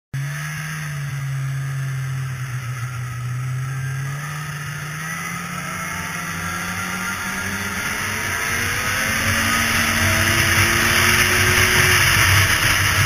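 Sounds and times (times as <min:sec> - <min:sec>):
snowmobile engine running: 0:00.2 - 0:13.0.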